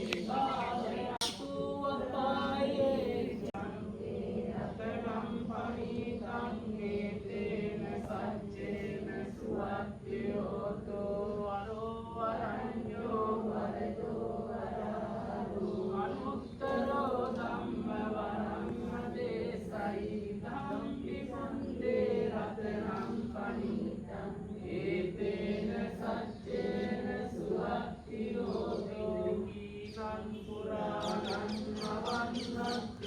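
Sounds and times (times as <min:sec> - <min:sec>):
chanting: 0:00.0 - 0:33.0.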